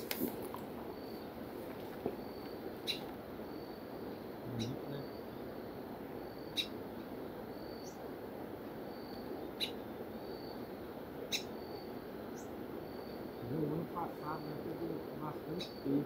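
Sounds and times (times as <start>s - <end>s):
low outdoor hiss: 0.0s - 16.0s.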